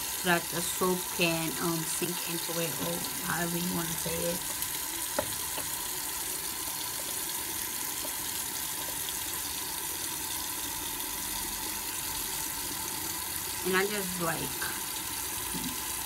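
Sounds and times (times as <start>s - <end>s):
water running from sink tap: 0.0s - 16.0s.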